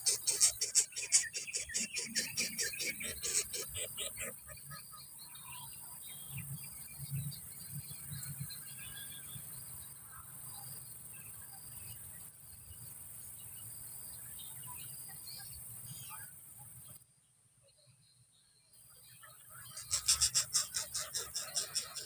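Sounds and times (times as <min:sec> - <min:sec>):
small birds chirping: 0:00.0 - 0:17.0, 0:17.7 - 0:22.0.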